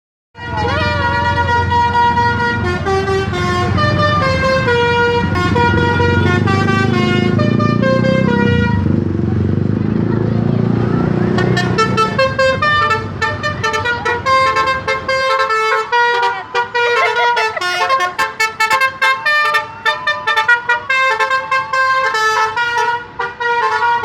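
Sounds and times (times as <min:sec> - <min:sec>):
bus horn playing a tune: 0:00.4 - 0:09.0, 0:11.1 - 0:24.0.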